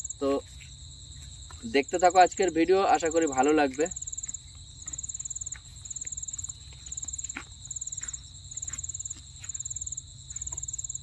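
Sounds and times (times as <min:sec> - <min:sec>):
crickets chirping: 0:00.0 - 0:11.0
high-pitched insect drone: 0:00.0 - 0:11.0.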